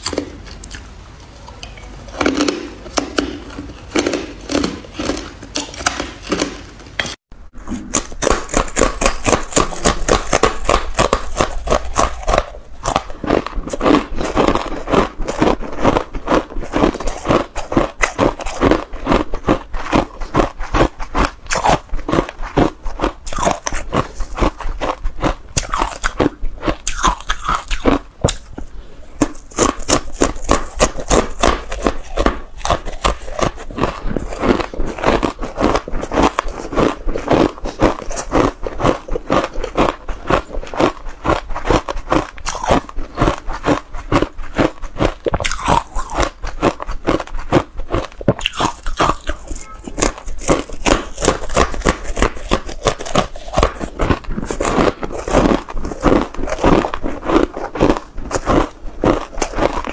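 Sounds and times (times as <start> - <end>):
ice crunching and chewing: 1.6 - 59.9.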